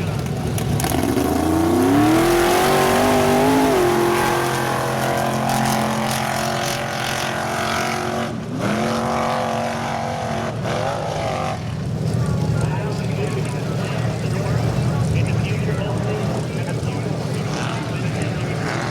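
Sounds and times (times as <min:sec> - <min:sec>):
off-road vehicle engine revving: 0:00.0 - 0:18.9.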